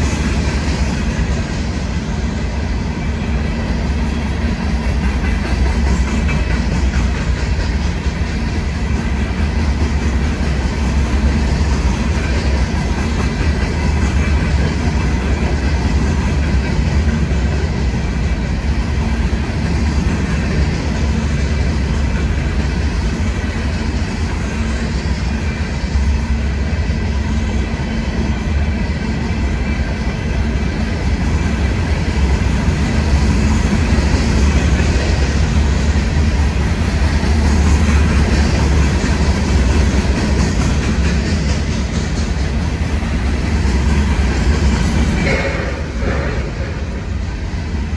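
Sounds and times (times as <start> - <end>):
freight train rolling past: 0.0 - 47.9.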